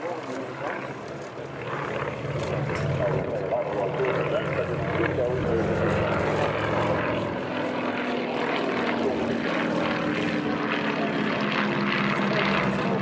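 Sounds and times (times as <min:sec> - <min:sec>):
propeller airplane engine droning: 0:00.0 - 0:13.0.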